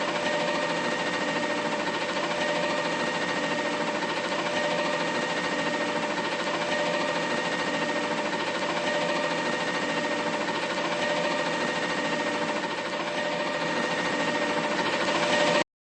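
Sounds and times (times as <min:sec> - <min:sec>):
constant high whine: 0:00.0 - 0:15.6
garbage truck engine drone: 0:00.0 - 0:15.6.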